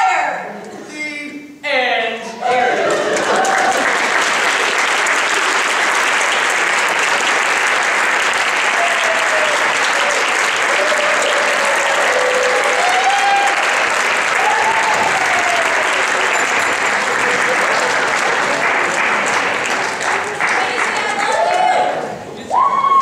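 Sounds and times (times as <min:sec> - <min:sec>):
audience applauding: 0:02.7 - 0:22.1.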